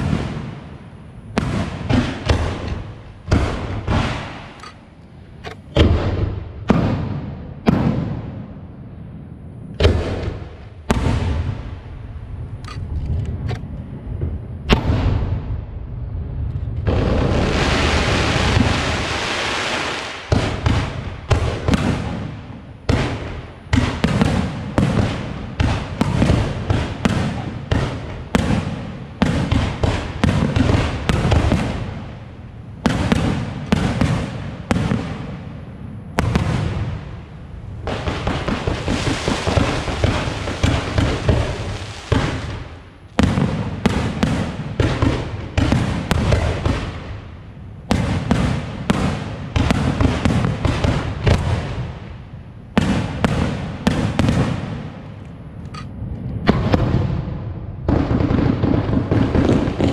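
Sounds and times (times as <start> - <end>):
fireworks bangs: 0.0 - 55.2, 56.4 - 59.9.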